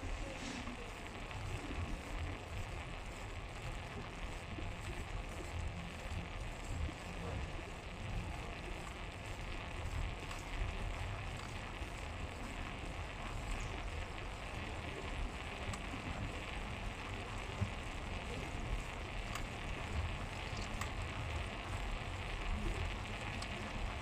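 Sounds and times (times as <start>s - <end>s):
road noise from moving bike: 0.0s - 24.0s.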